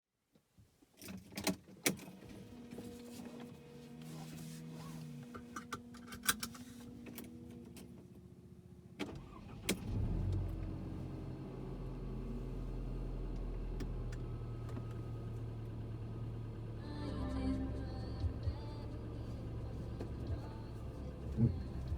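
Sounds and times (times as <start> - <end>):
car engine starting and idling: 1.8 - 21.9.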